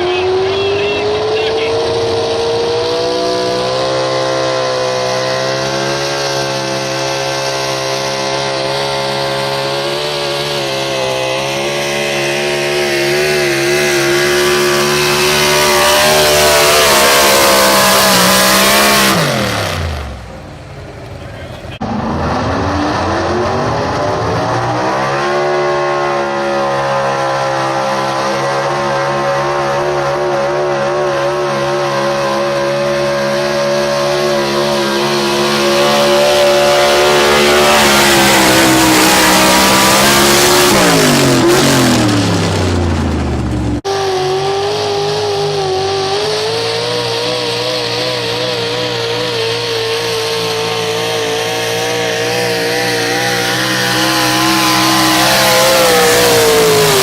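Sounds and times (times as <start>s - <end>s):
truck engine at high revs: 0.0s - 57.0s.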